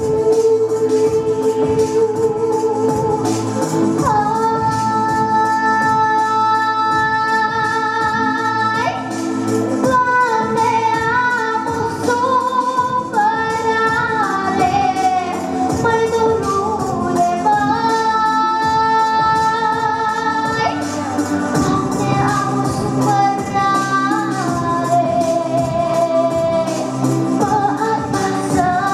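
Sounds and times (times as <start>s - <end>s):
girl singing into a microphone: 0.0s - 3.4s, 4.0s - 9.2s, 9.8s - 28.9s
backing track with steady beat: 0.0s - 28.9s.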